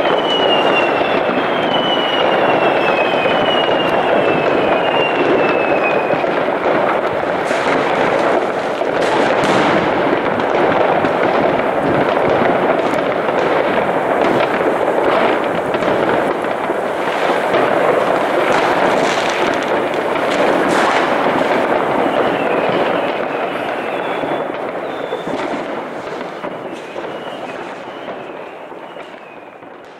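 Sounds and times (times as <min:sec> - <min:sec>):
fireworks crackling and popping: 0:00.0 - 0:29.9
sharp firework bangs: 0:00.0 - 0:29.9.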